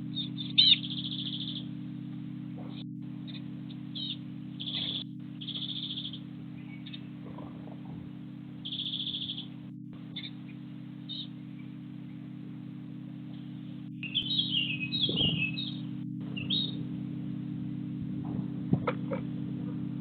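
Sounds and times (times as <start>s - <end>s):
small birds chirping and trilling: 0.0s - 17.4s
steady low hum: 0.0s - 20.0s.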